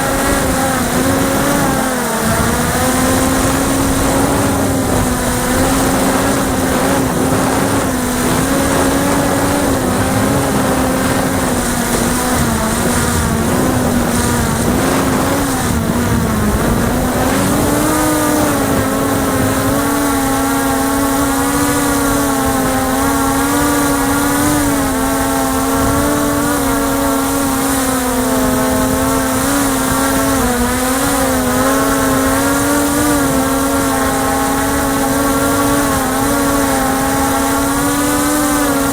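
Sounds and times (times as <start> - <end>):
drone propellers whirring: 0.0 - 38.9.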